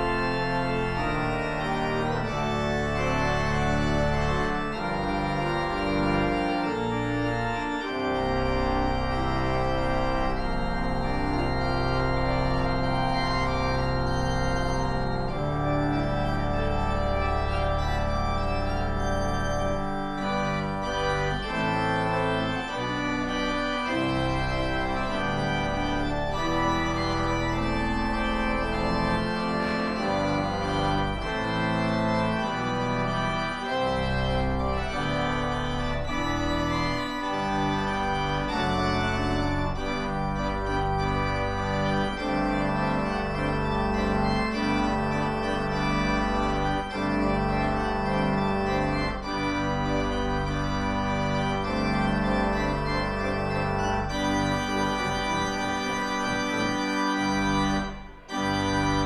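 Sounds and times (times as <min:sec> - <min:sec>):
organ music: 0:00.0 - 0:59.0.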